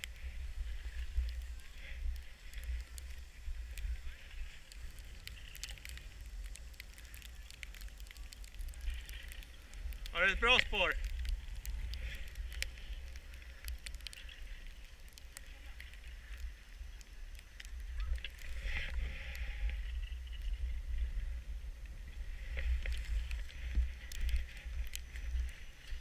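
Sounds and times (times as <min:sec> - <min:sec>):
skis sliding over snow: 0:00.0 - 0:26.0
wind rumble on microphone: 0:00.0 - 0:26.0.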